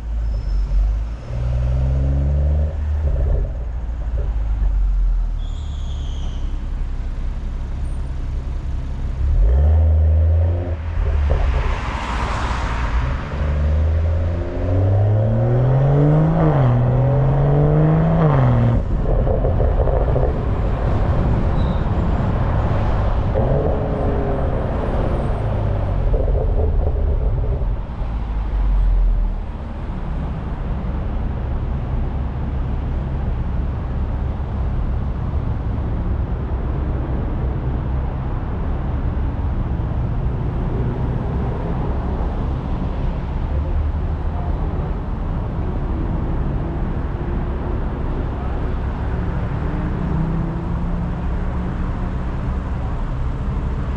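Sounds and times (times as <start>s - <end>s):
car exhaust accelerating: 0.0s - 5.4s, 6.8s - 53.9s.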